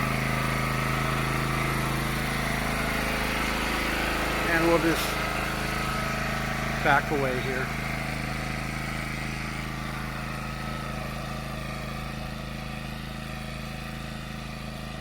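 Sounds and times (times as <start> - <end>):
generator engine hum: 0.0 - 15.0.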